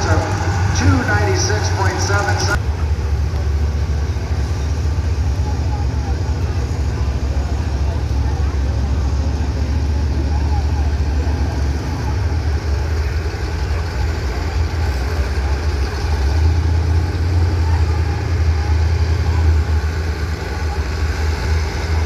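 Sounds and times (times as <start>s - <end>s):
pickup truck engine idling: 0.0s - 22.0s.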